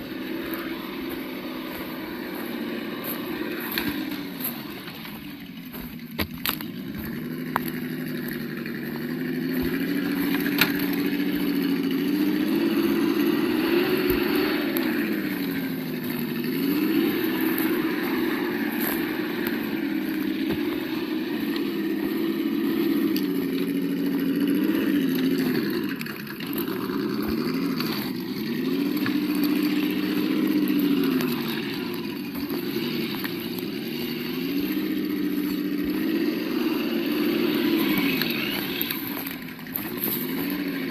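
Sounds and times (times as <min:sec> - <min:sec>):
simulated engine sound: 0:00.0 - 0:40.9.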